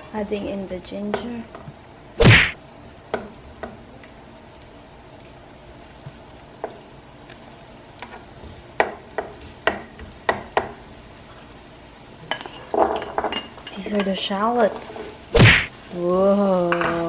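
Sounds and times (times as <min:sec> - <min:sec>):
ginger sizzling in oil: 0:00.0 - 0:17.0.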